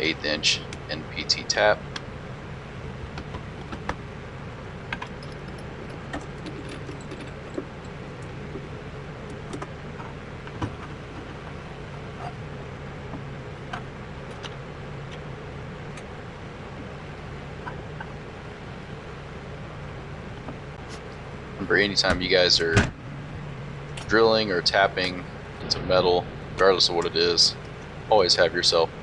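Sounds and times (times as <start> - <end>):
low shop hum: 0.0 - 29.0.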